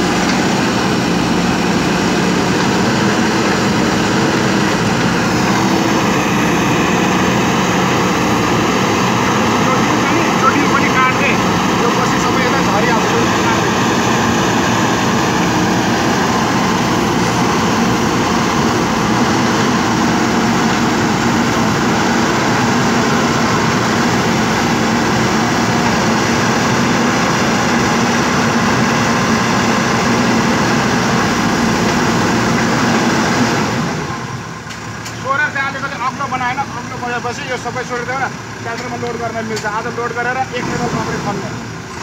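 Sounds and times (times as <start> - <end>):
diesel engine running loudly: 0.0 - 42.0.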